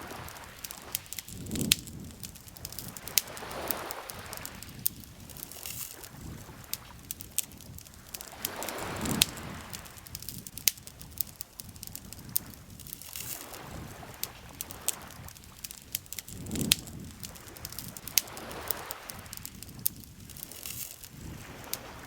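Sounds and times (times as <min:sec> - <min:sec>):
lake water lapping: 0:00.0 - 0:10.2, 0:10.9 - 0:19.5
campfire crackling: 0:00.0 - 0:22.0.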